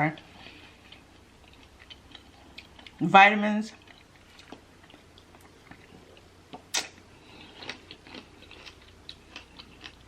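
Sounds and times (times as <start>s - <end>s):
person chewing berries: 0.0s - 3.0s, 3.7s - 10.0s.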